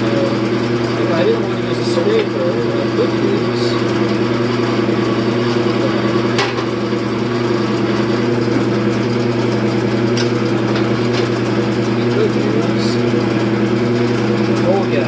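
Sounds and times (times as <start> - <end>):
scraper cutting spinning wood: 0.0 - 15.0
wood lathe motor hum: 0.0 - 15.0.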